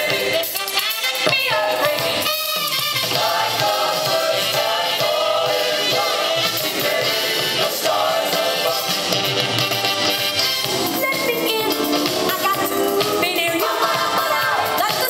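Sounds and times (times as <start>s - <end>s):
show music with singing: 0.0s - 15.0s.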